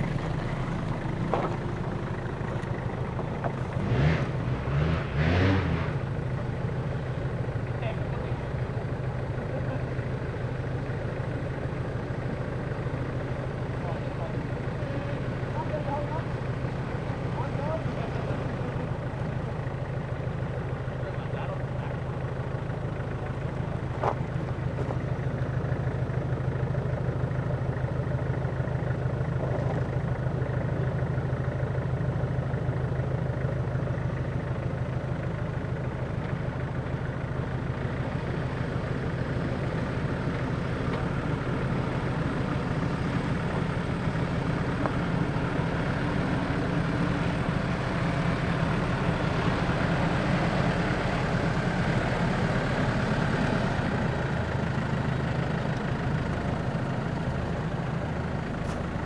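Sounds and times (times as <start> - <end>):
truck engine at low revs: 0.0 - 59.0.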